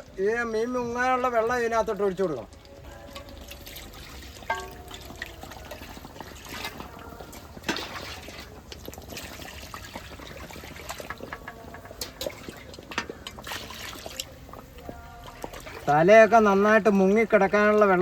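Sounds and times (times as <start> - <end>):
water pouring into a pot: 0.1 - 18.0.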